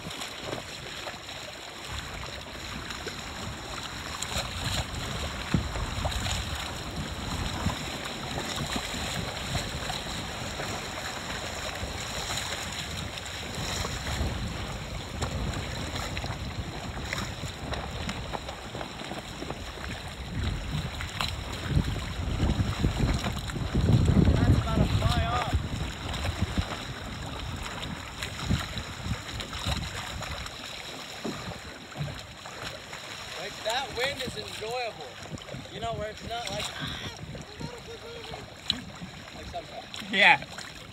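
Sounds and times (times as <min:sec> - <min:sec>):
water splashing along hull: 0:00.0 - 0:40.9
wind buffeting microphone: 0:01.9 - 0:30.6, 0:33.4 - 0:40.9.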